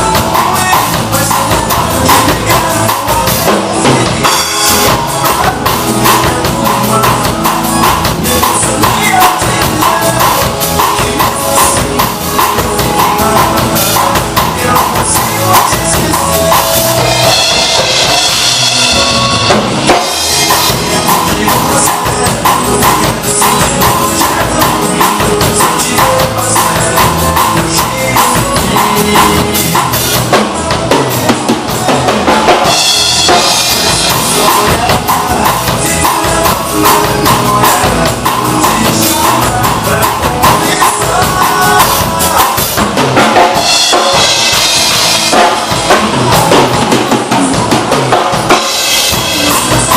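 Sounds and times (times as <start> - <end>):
drum kit playing: 0.0 - 49.9
recorded song backing track: 0.0 - 49.9.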